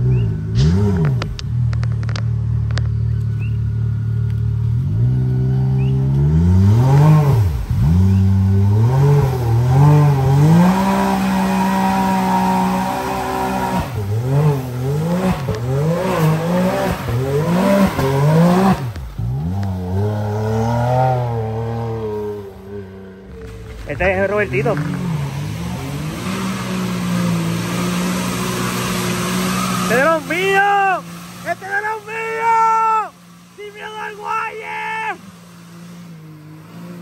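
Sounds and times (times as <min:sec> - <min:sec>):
utility vehicle engine running: 0:00.0 - 0:37.0.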